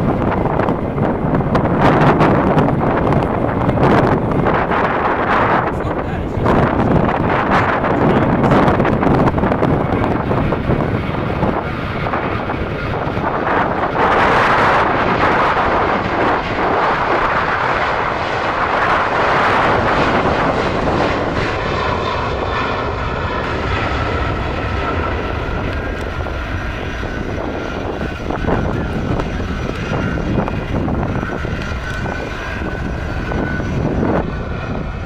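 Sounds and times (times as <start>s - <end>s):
airliner engines passing: 0.0s - 35.0s
multi-tone engine whine: 0.0s - 35.0s.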